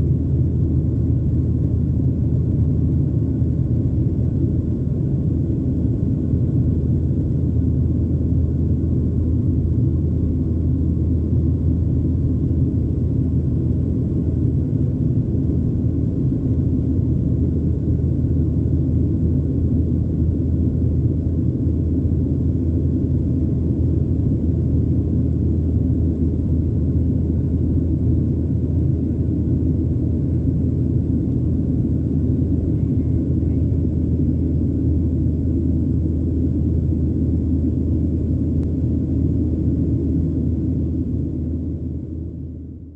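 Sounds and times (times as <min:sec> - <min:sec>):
jet engines droning: 0:00.0 - 0:42.9.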